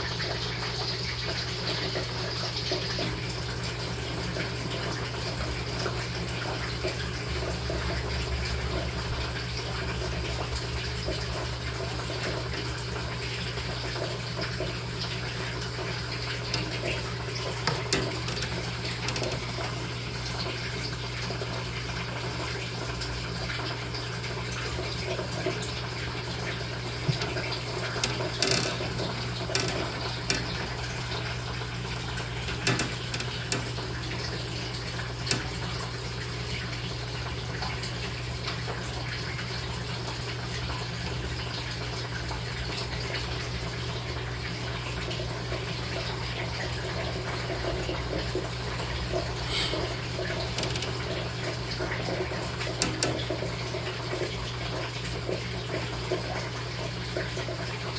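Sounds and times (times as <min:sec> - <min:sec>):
running water: 0:00.0 - 0:57.9.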